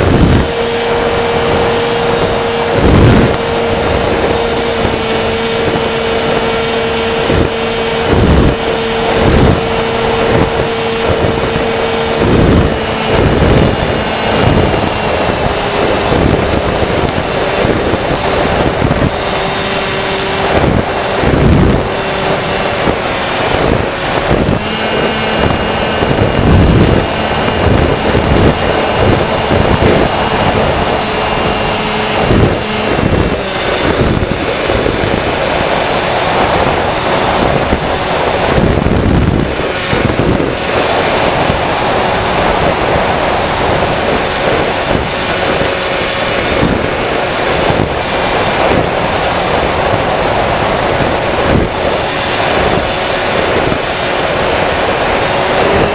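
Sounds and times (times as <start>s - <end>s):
low thumps: 0.0s - 55.9s
model aircraft propellers whining: 0.0s - 55.9s.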